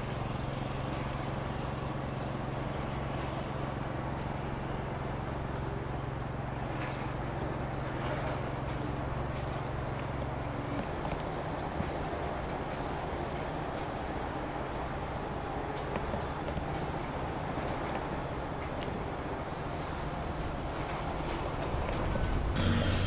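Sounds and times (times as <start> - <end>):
low mechanical machine hum: 0.0 - 23.0
outdoor background noise: 0.0 - 23.0.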